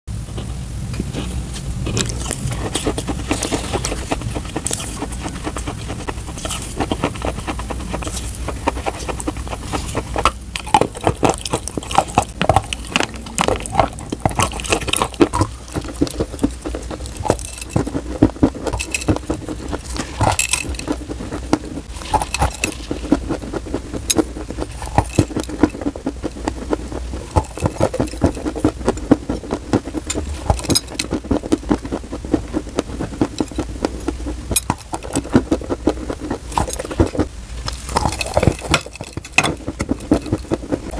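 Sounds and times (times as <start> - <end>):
steady low hum: 0.1 - 40.9
chewing hard chalky pieces: 1.9 - 40.9.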